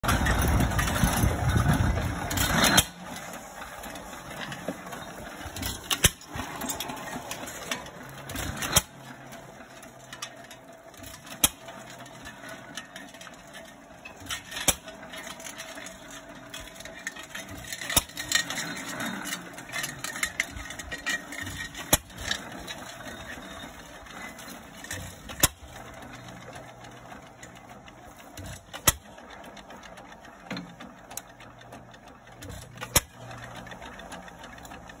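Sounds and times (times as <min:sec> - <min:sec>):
light mechanical clatter: 0:00.0 - 0:35.0.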